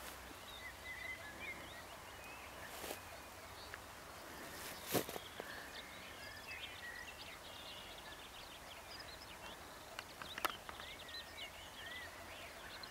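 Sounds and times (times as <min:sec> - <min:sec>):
faint outdoor hiss: 0:00.0 - 0:12.9
small birds singing and chirping: 0:00.0 - 0:12.9.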